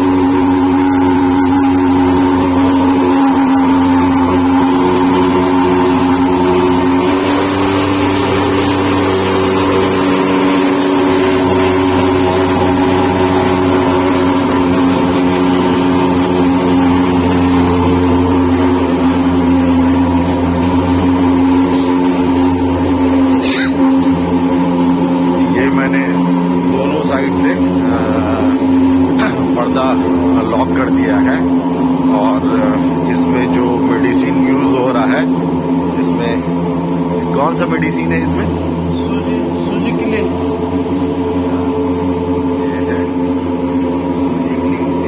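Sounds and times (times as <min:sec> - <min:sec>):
sprayer engine running: 0:00.0 - 0:45.0.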